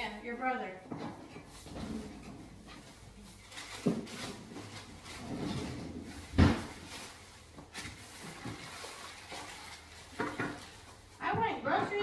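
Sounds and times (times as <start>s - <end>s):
rustling: 0.9s - 12.0s.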